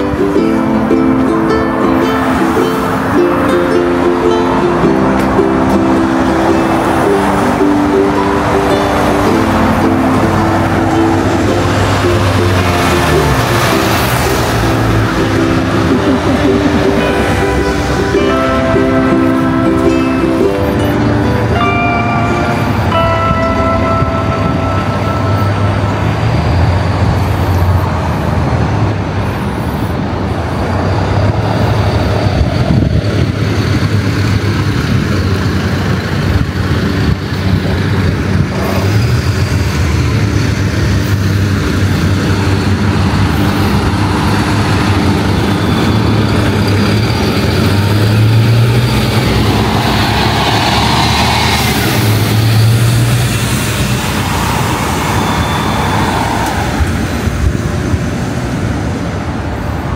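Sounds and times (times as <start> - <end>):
cars and trucks passing: 0.0 - 59.9.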